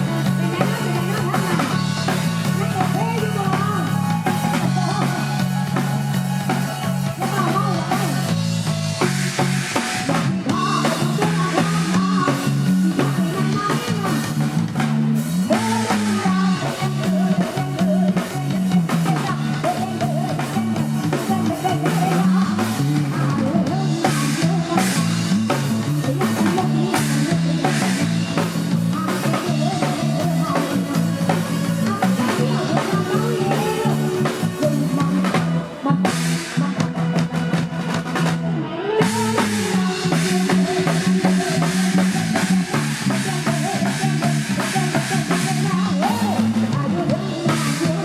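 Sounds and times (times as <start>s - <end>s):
drum kit: 0.0s - 48.0s
guitar: 0.0s - 48.0s
repeating bass line: 0.0s - 48.0s.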